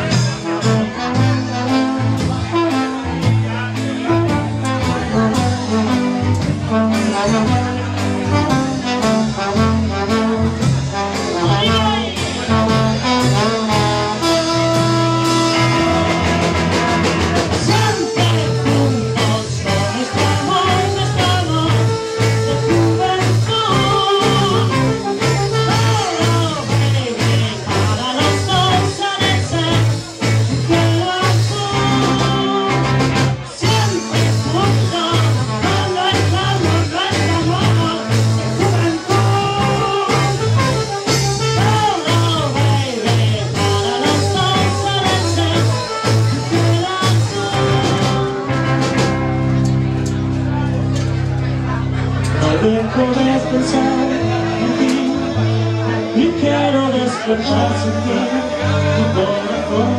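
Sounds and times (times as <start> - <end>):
trombone: 0.0 - 50.7, 52.7 - 59.9
drums: 0.0 - 59.9
electric guitar: 0.0 - 59.9
live band playing: 0.0 - 59.9.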